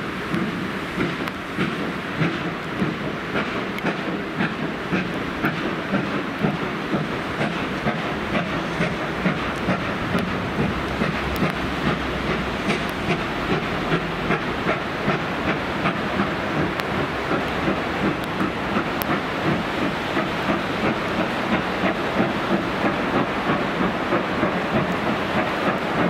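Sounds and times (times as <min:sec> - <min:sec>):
continuous rushing noise: 0:00.0 - 0:26.0
train rhythmic clatter: 0:00.0 - 0:26.0.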